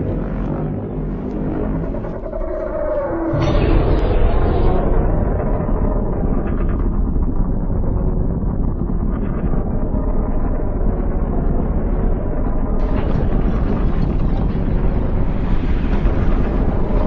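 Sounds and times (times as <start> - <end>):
loud low rumble: 0.0 - 17.0.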